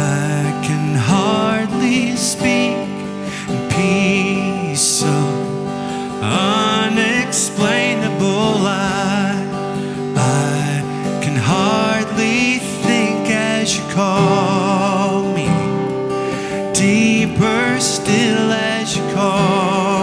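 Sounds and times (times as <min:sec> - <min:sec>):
acoustic guitar: 0:00.0 - 0:20.0
person singing: 0:00.0 - 0:20.0.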